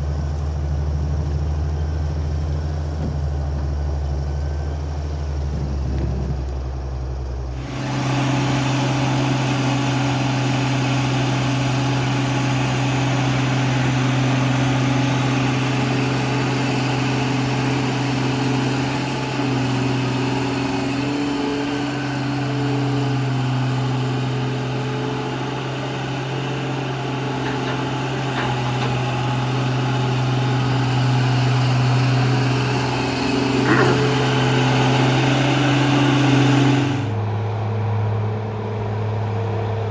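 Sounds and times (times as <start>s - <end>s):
heavy diesel engine running: 0.0s - 37.2s.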